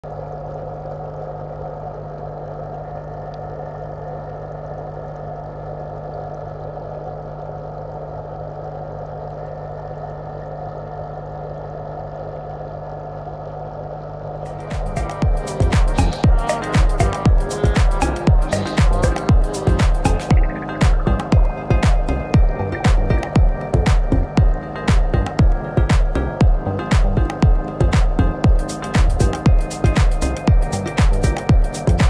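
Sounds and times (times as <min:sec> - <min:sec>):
aquarium pump humming underwater: 0:00.0 - 0:32.0.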